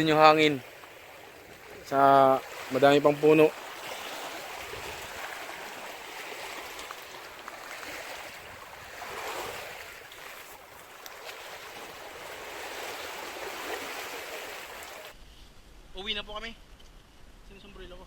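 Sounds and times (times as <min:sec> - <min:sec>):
small waves washing on shore: 0:00.0 - 0:15.2.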